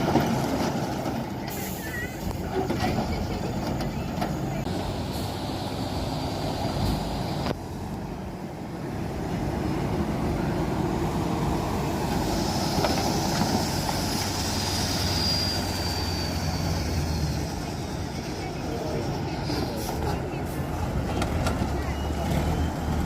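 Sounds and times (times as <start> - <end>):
heavy truck engine under load: 0.0 - 23.0.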